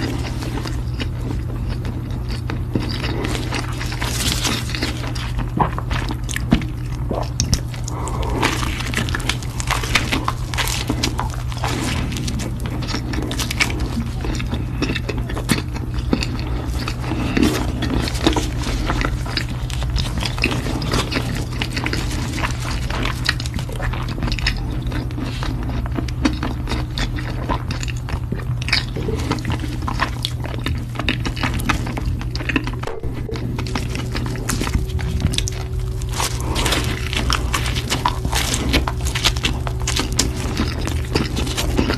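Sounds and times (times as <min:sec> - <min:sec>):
person chewing food: 0:00.0 - 0:41.9
steady low hum: 0:00.0 - 0:41.9.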